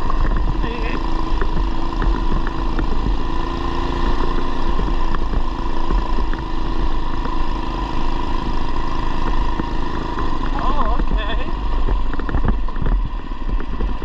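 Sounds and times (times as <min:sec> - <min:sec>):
mini bike engine running: 0:00.0 - 0:14.0.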